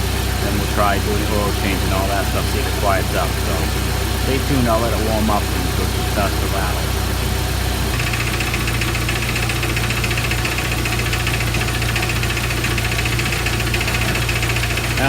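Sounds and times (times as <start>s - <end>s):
engine idling: 0.0s - 15.0s
rapid knocking rattle: 0.0s - 15.0s.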